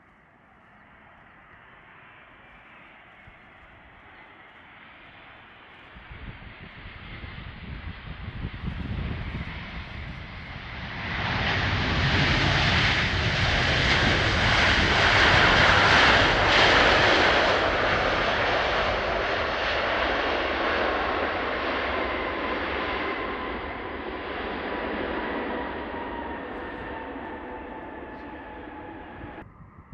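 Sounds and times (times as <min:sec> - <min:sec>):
jet airliner engine roar: 0:00.0 - 0:29.9.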